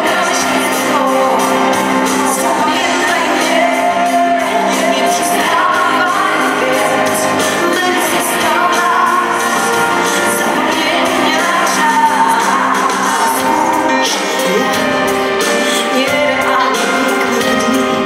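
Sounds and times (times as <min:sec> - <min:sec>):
steady drum beat: 0:00.0 - 0:18.0
woman singing with band: 0:00.0 - 0:18.0.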